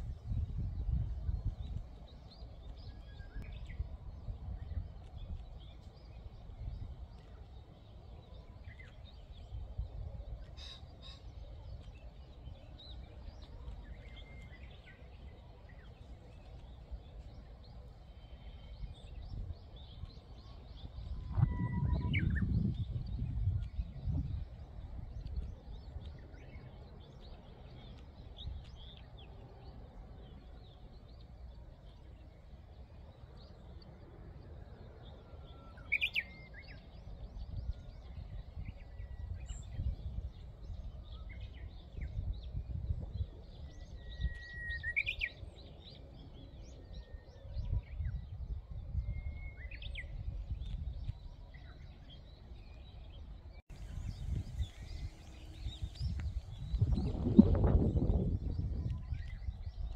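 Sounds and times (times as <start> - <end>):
wind gusting over microphone: 0.0 - 59.9
small birds chirping: 0.1 - 59.9.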